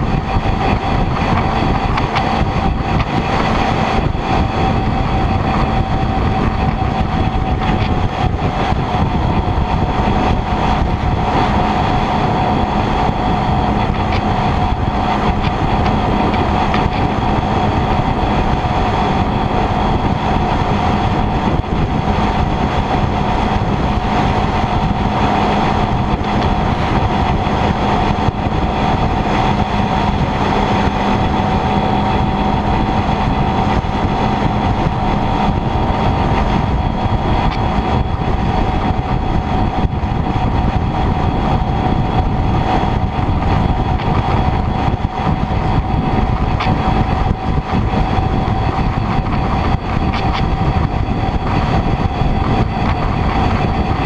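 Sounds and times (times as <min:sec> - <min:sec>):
motorcycle engine whine: 0:00.0 - 0:54.0
wind and road noise: 0:00.0 - 0:54.0.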